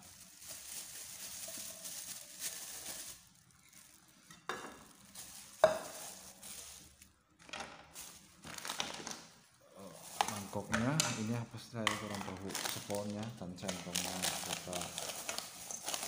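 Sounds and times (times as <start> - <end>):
plastic bag rustling: 0.0 - 16.0.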